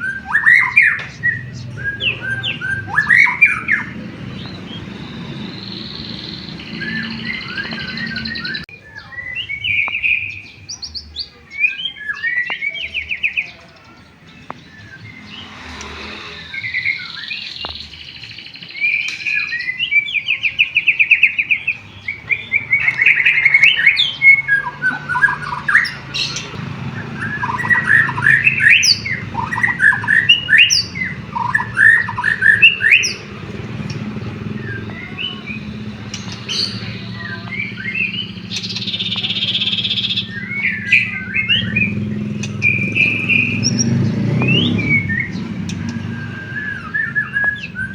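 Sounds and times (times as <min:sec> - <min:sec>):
bird singing whistles and trills: 0:00.0 - 0:47.9.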